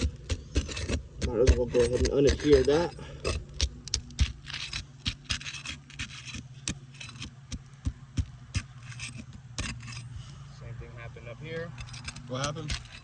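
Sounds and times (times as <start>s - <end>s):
pry bar prying shingles: 0.0s - 10.2s, 11.6s - 13.0s
steady low hum: 0.0s - 13.0s.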